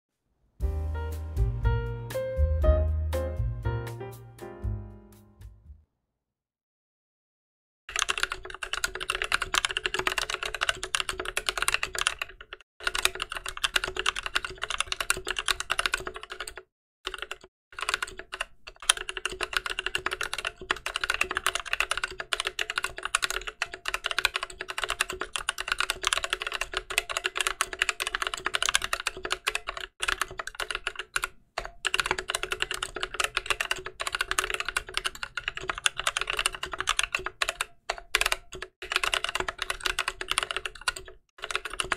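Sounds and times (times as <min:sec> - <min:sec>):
mechanical keyboard typing: 0:07.9 - 0:41.9.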